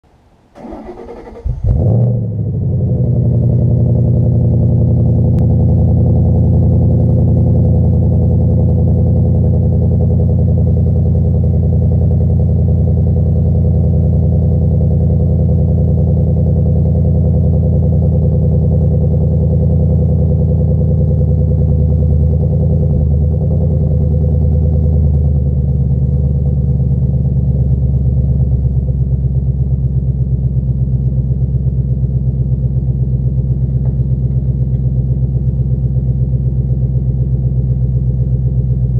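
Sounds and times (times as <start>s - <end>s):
car engine revving and idling: 0.6s - 38.9s.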